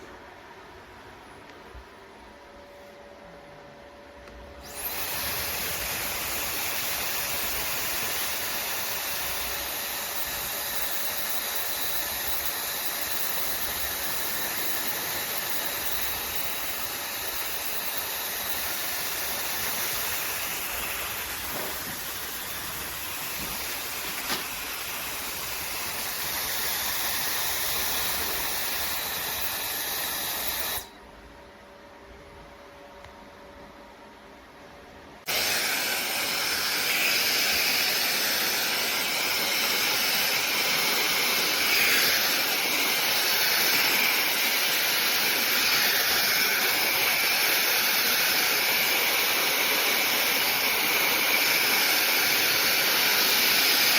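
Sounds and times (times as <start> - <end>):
hair dryer blowing: 4.6 - 31.0, 35.2 - 53.9.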